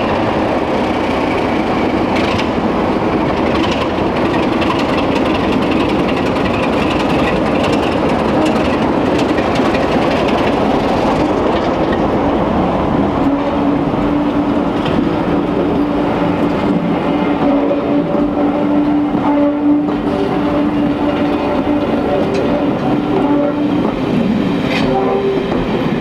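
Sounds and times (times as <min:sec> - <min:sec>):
diesel locomotive engine: 0:00.0 - 0:26.0
train coaches rolling on rails: 0:00.0 - 0:26.0.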